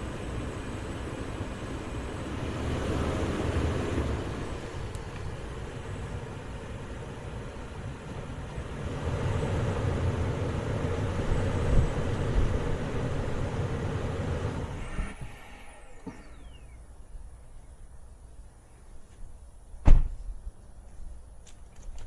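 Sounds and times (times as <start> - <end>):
motor vehicle rumbling: 0.0 - 18.4.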